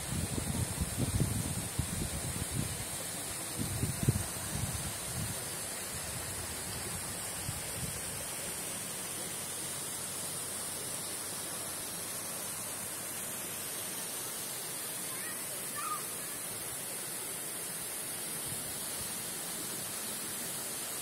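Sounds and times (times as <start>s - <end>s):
waterfall and creek rushing: 0.0s - 21.0s.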